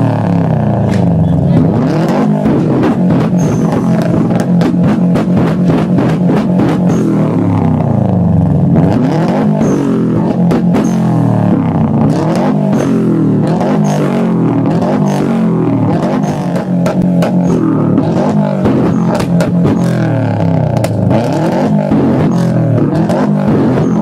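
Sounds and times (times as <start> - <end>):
car engine revving: 0.0 - 24.0
exhaust pops and crackles: 0.0 - 24.0.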